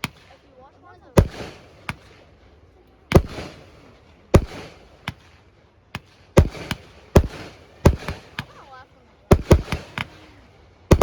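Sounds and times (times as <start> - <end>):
sharp firework reports: 0.0 - 11.0
fireworks booming: 1.2 - 2.3, 3.1 - 11.0.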